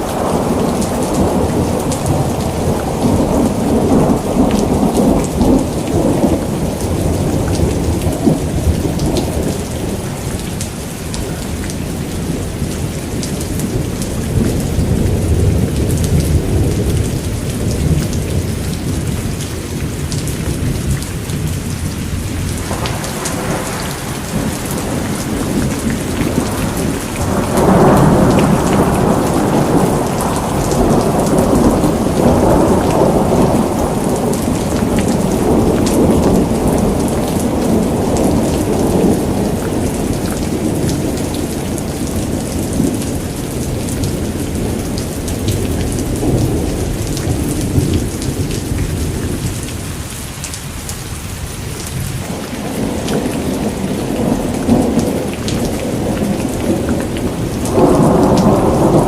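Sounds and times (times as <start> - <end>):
thunder rumbling: 0.0 - 50.2, 51.5 - 59.0
steady rain: 0.0 - 59.0.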